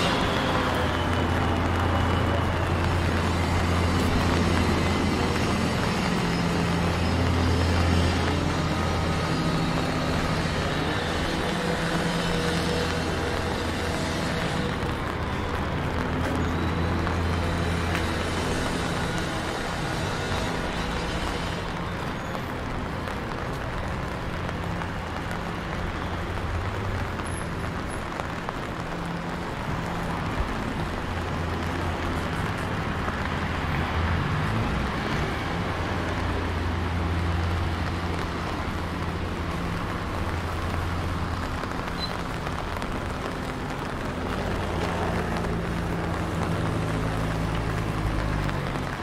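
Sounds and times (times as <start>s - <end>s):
engine hum: 0.0s - 49.0s
tyres hissing on wet asphalt: 0.0s - 49.0s.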